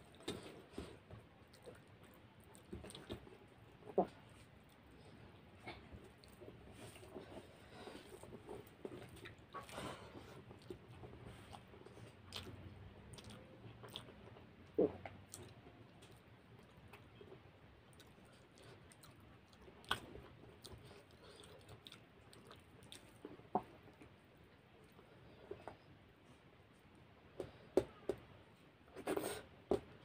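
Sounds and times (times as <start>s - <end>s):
man chewing food: 0.0s - 28.0s.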